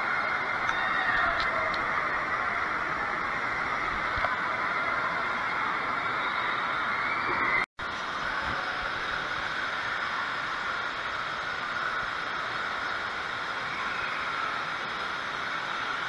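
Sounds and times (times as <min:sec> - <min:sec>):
indoor water park ambience: 0:00.0 - 0:16.0.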